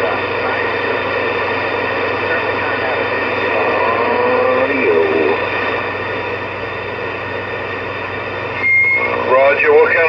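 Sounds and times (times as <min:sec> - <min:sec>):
faint garbled radio voices: 0:00.0 - 0:10.0
radio static hiss: 0:00.0 - 0:10.0.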